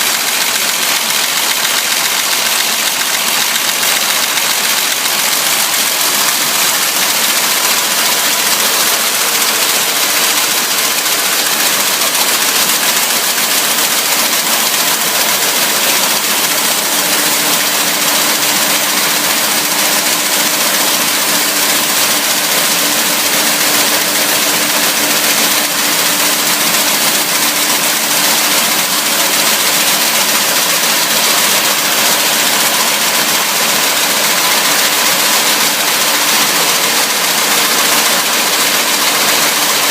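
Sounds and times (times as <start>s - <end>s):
welding machine clattering: 0.0s - 39.9s.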